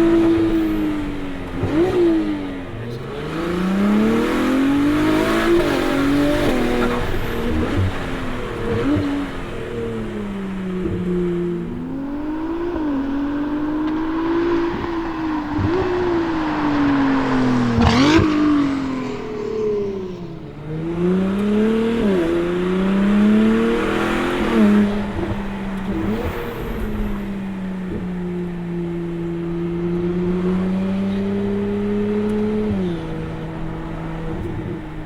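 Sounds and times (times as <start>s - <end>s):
exhaust crack: 0.0s - 35.0s
sports car engine accelerating: 0.0s - 35.0s.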